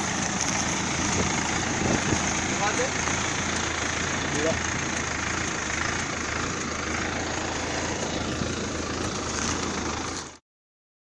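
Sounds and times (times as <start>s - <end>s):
harvester engine running: 0.0s - 10.4s.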